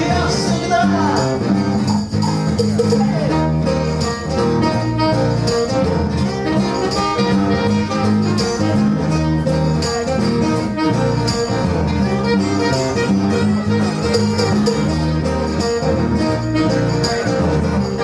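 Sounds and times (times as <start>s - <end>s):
live reggae band playing: 0.0s - 18.0s.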